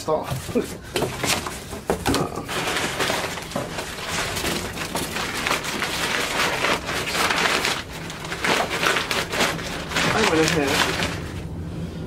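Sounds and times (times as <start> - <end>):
packing paper crinkling and rustling: 0.3 - 11.4.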